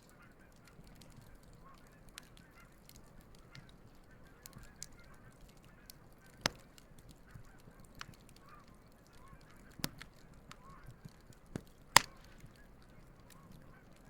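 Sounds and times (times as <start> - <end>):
campfire crackling and popping: 0.0 - 14.0
geese honking faintly: 0.0 - 14.0.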